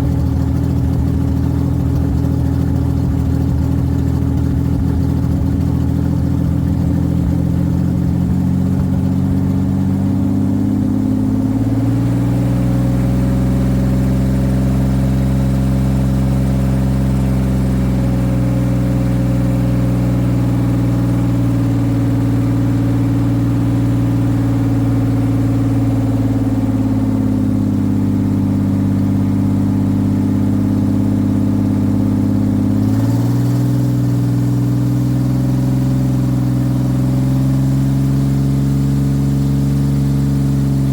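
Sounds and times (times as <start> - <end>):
car engine drone: 0.0 - 40.9.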